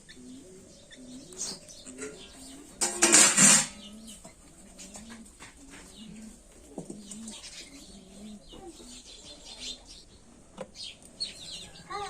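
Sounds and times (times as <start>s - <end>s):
dove cooing: 0.0s - 9.9s
small birds chirping: 0.0s - 12.0s.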